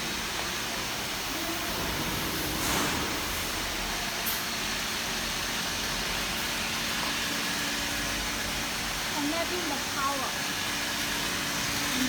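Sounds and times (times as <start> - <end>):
workshop background hiss: 0.0 - 12.0.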